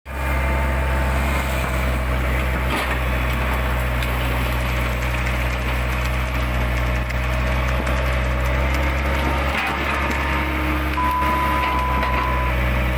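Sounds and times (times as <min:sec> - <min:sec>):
excavator diesel engine running: 0:00.1 - 0:12.9.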